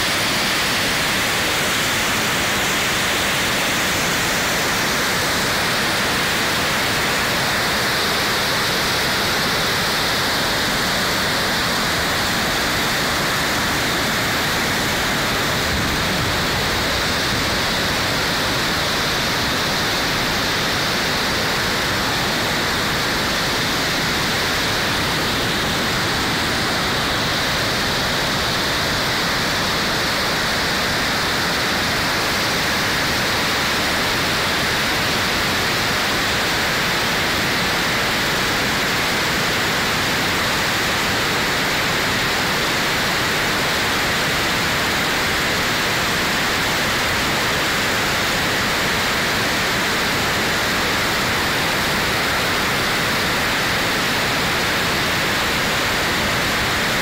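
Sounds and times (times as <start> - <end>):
waterfall rushing over rock: 0.0 - 57.0.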